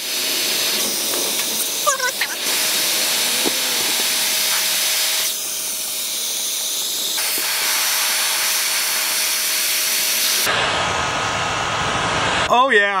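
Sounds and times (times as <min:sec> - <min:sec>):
heat gun blowing hot air: 0:00.0 - 0:11.1
faint motor whine: 0:00.0 - 0:12.4.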